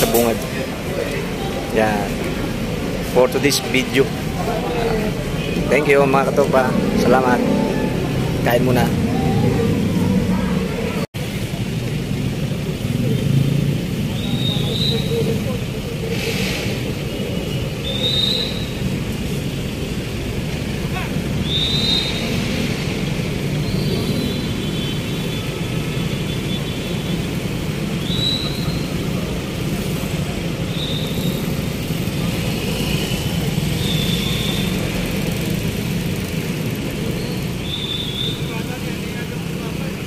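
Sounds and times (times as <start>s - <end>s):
street traffic rumble: 0.0s - 40.0s.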